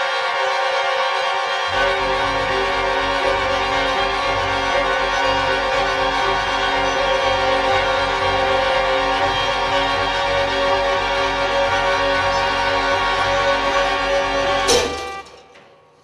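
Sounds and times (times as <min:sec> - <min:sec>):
string section sustained chords: 0:00.0 - 0:15.8
low steady bass: 0:01.7 - 0:14.9.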